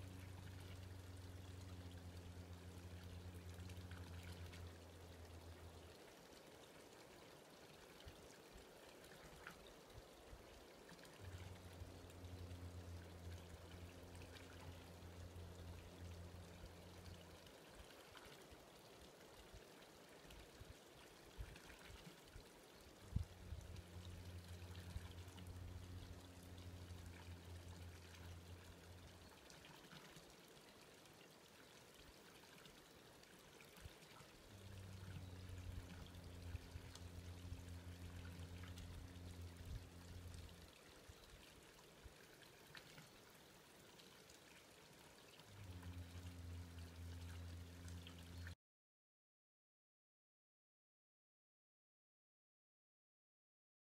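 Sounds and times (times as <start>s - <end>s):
low steady hum: 0.0s - 48.6s.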